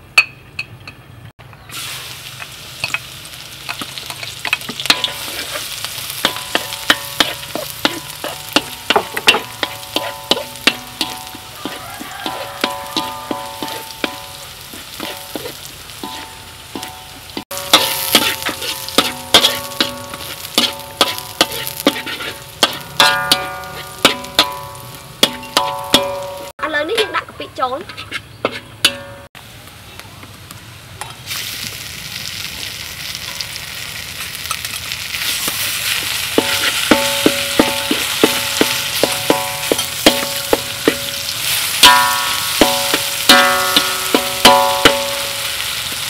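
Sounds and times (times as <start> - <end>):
garlic sizzling in hot oil: 1.5 - 46.0
metal spatula scraping wok: 1.7 - 29.3, 35.2 - 46.0.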